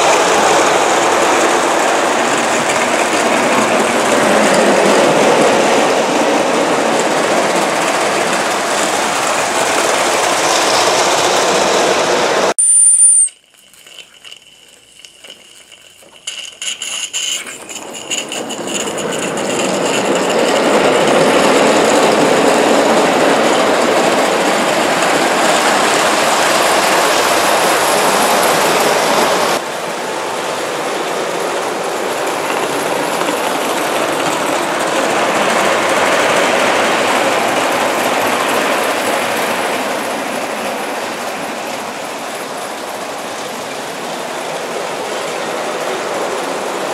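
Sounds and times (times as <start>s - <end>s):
model train wheels rattling on rails: 0.0s - 12.2s, 12.9s - 29.6s, 30.4s - 46.9s.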